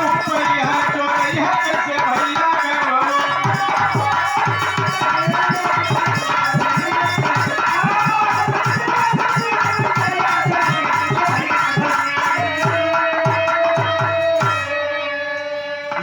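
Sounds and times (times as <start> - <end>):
hand drum rhythm: 0.0 - 14.8
harmonium melody: 0.0 - 16.0.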